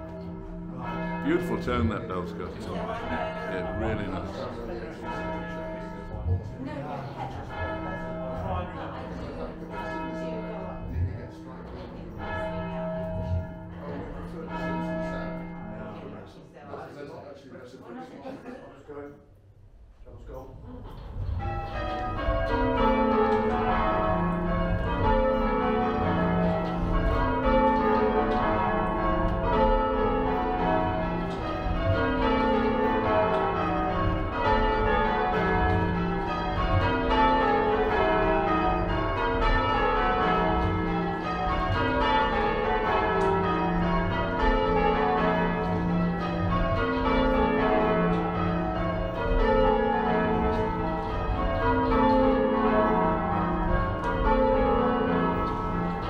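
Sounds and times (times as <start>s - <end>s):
church bells ringing: 0.0s - 16.3s, 21.1s - 56.0s.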